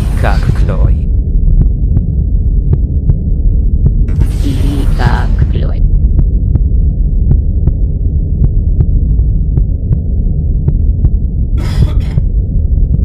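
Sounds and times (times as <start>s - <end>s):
deep throbbing hum: 0.0s - 13.0s.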